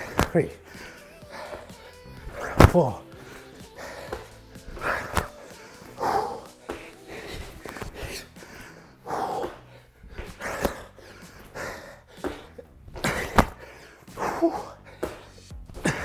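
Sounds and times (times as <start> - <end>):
man breathing hard: 0.0 - 16.0.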